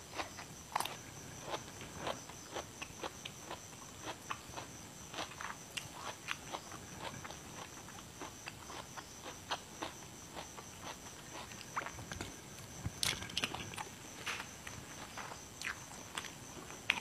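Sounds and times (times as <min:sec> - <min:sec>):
chewing crunchy vegetables: 0:00.0 - 0:17.0.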